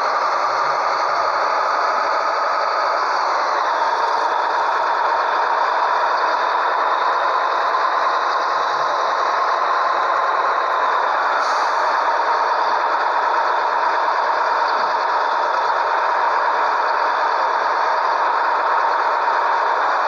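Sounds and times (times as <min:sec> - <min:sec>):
truck running steadily: 0:00.0 - 0:20.0.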